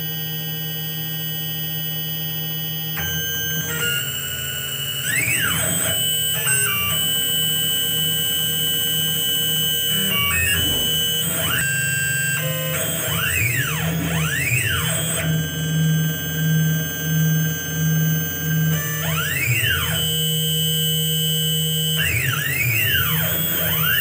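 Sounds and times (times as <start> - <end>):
cnc mill stepper motors whining: 0.0 - 24.0.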